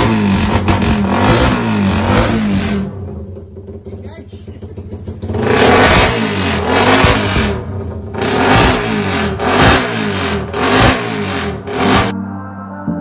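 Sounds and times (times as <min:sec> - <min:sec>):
motorbike engine revving: 0:00.0 - 0:12.1.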